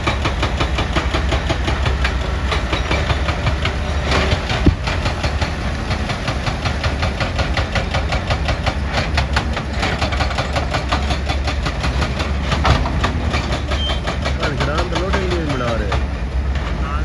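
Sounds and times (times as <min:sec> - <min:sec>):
heavy machinery engine knocking: 0:00.0 - 0:17.0.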